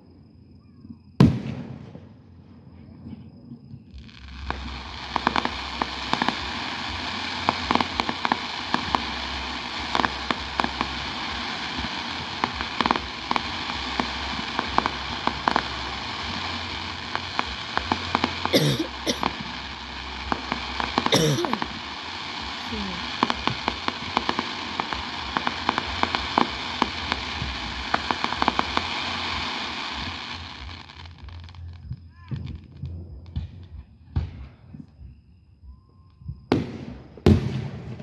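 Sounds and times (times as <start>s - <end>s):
fireworks crackling and popping: 1.2s - 35.3s, 36.3s - 38.0s
loud fireworks cracks: 3.9s - 34.8s, 36.5s - 38.0s.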